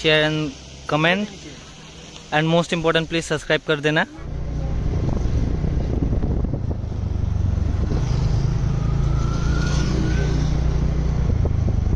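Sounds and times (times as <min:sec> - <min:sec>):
road and wind noise: 0:00.0 - 0:11.9
vehicle engine droning: 0:00.0 - 0:11.9.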